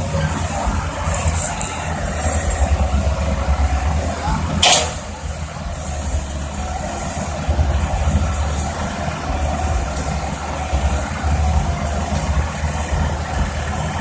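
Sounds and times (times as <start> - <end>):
heavy diesel engines rumbling: 0.0 - 14.0.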